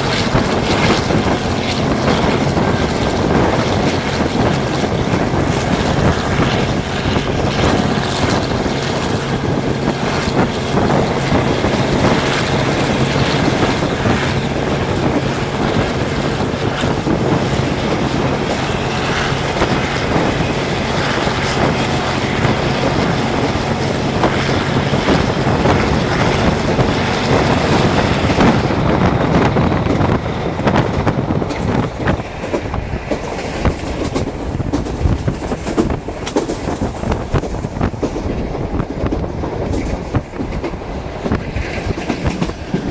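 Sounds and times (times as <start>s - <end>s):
diesel locomotive engine drone: 0.0s - 42.9s
train wheels clattering on rails: 0.0s - 42.9s.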